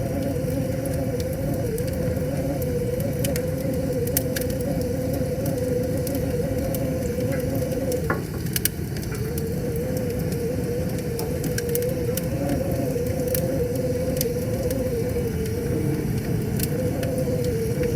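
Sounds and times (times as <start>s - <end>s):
wavering whistling tone: 0.0s - 8.2s, 9.1s - 17.9s
wood fire crackling: 0.0s - 17.9s.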